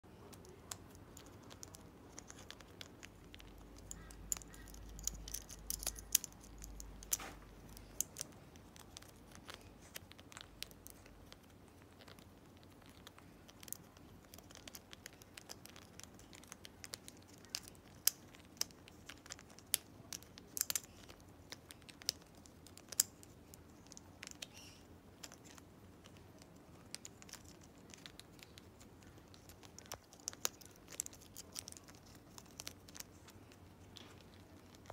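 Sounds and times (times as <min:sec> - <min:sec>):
parrot beak chewing plastic: 0:00.1 - 0:34.9.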